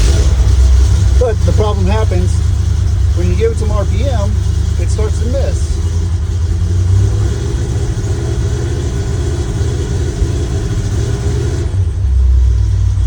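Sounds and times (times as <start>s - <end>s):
pickup engine revving and missing: 0.0s - 13.0s.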